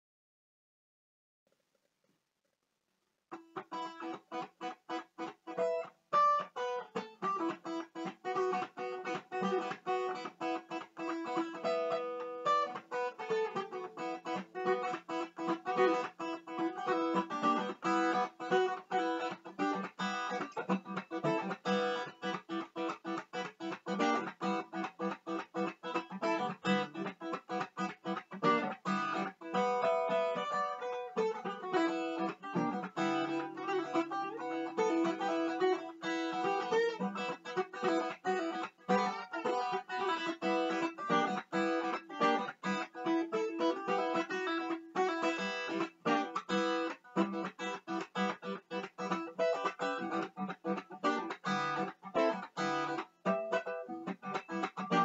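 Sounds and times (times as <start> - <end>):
acoustic guitar blues playing: 3.3 - 55.0.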